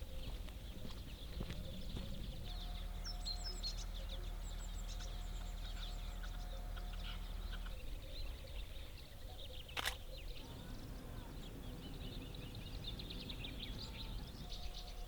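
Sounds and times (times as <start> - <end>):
steady low hum: 0.0 - 9.5, 10.2 - 15.0
small birds chirping: 0.0 - 15.0.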